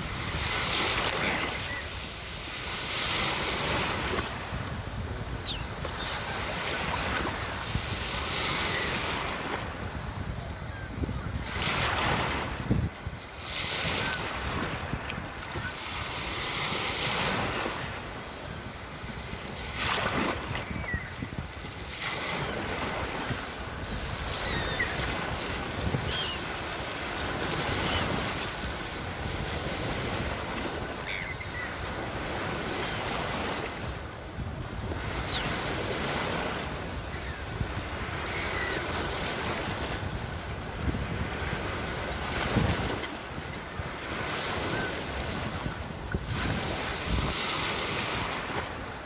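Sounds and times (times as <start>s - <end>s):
sea waves washing ashore: 0.0s - 49.0s.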